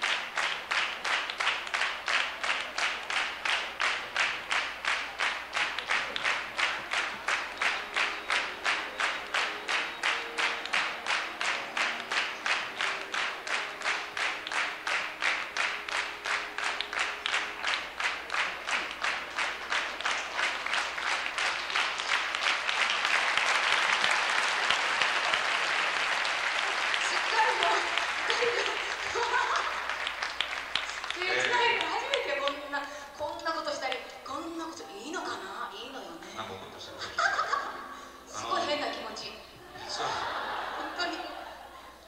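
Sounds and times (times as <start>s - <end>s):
audience clapping in unison: 0.0s - 34.2s
loud continuous applause: 0.0s - 34.2s, 39.6s - 42.0s.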